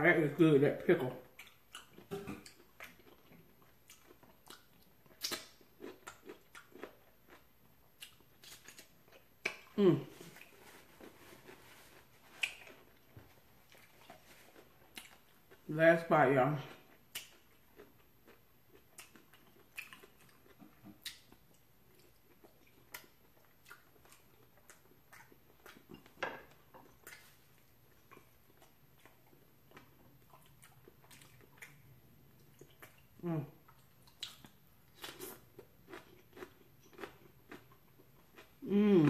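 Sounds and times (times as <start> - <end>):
wet chewing: 1.3 - 15.6, 16.6 - 39.0.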